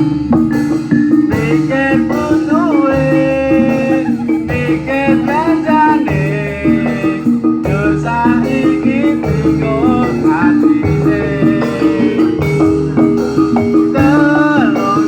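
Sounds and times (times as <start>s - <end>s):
repeating low notes: 0.0s - 15.0s
person singing: 1.3s - 15.0s.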